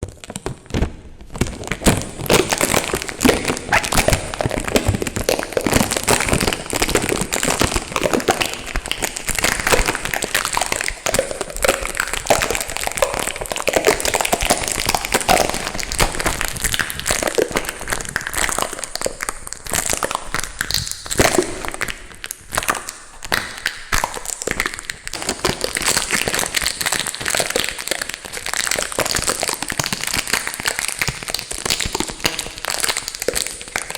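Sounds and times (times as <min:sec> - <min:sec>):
tape crinkling on microphone: 0:00.0 - 0:33.9.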